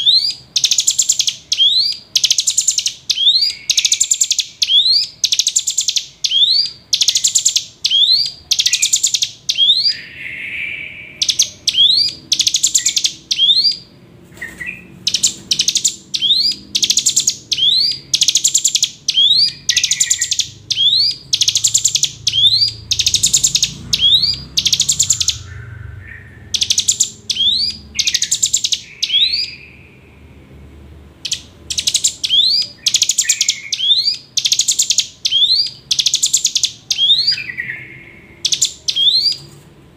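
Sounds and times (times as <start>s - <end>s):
soft low bird calls: 0.0s - 39.6s
bird singing buzzy song: 0.0s - 39.9s.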